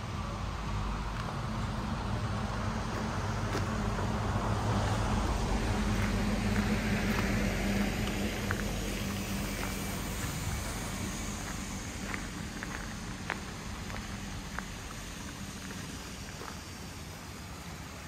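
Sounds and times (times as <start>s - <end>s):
street noise: 0.0s - 18.0s
vehicle engine humming: 0.0s - 18.0s.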